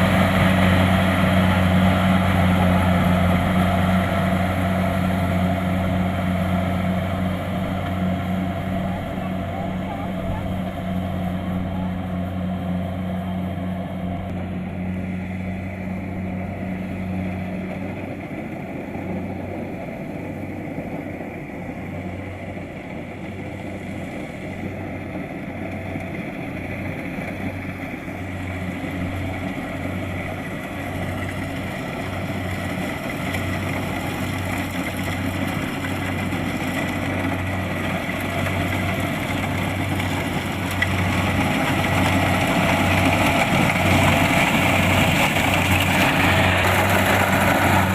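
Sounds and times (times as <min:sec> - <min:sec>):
combine harvester diesel engine droning: 0:00.0 - 0:47.9
working machinery noise: 0:00.0 - 0:47.9.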